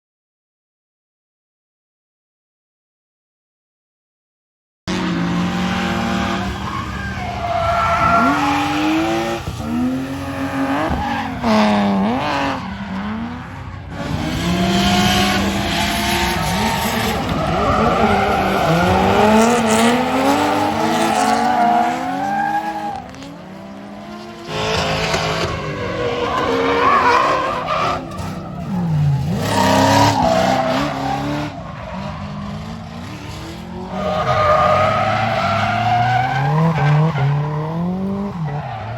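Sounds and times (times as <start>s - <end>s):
car engines revving hard: 4.9s - 38.9s.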